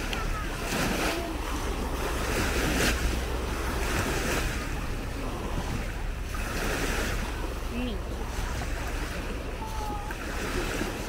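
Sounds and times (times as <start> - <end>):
small waves on sandy shore: 0.0 - 11.0
wind rumbling on microphone: 0.0 - 11.0.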